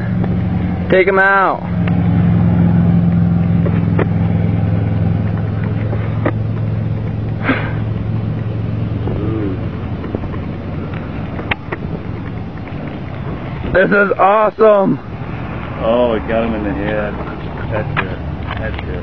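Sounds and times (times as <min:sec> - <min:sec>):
vehicle engine idling hum: 0:00.0 - 0:19.0.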